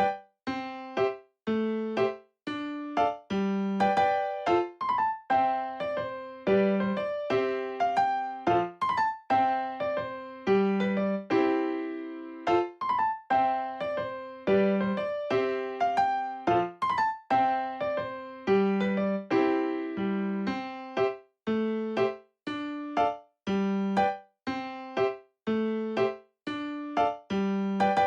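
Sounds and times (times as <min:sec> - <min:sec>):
bouncy electric piano tune: 0:00.0 - 0:28.0.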